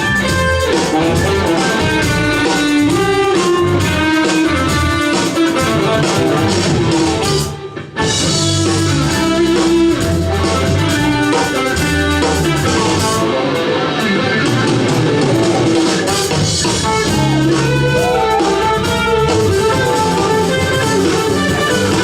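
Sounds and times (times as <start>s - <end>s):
bass guitar: 0.0s - 22.0s
drum kit: 0.0s - 22.0s
lead guitar: 0.0s - 22.0s.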